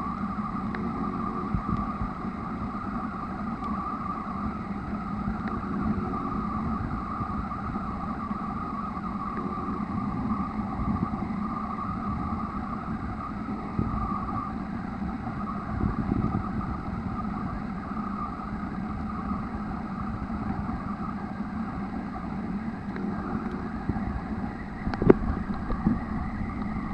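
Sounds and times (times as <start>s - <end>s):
muffled underwater drone: 0.0s - 26.9s.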